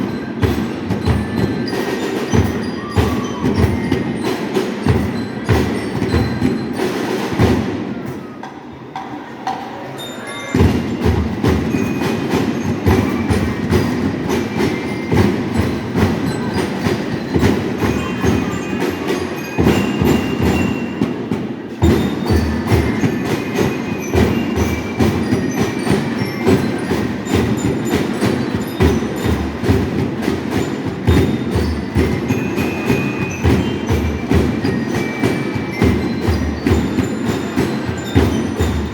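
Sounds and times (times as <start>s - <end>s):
marching drums: 0.0s - 8.4s, 10.6s - 38.9s.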